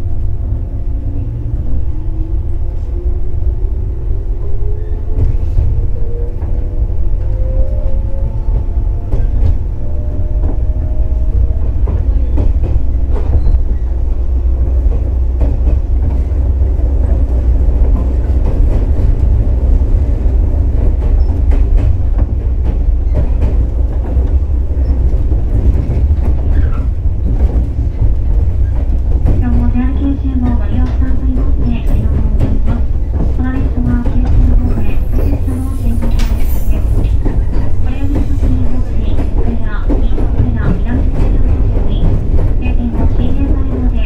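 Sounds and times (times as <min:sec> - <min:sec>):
train low rumble: 0:00.0 - 0:44.0.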